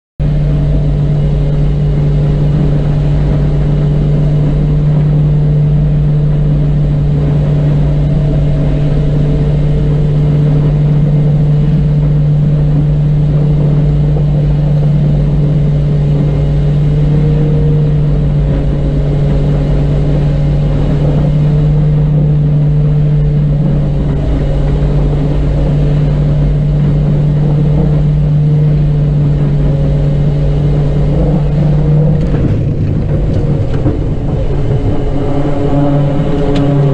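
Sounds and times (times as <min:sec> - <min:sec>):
turboprop engines droning: 0:00.2 - 0:36.9.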